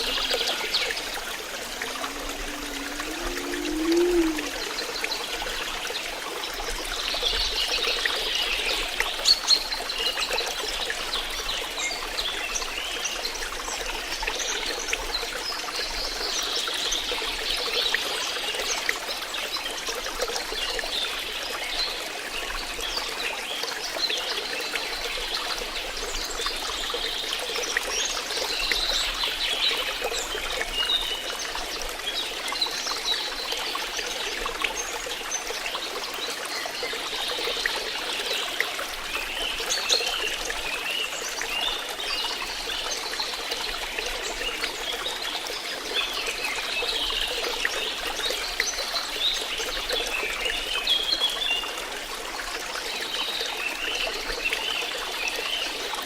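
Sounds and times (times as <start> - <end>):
water drips and gurgles: 0.0 - 56.0
water trickling and splashing: 0.0 - 56.0.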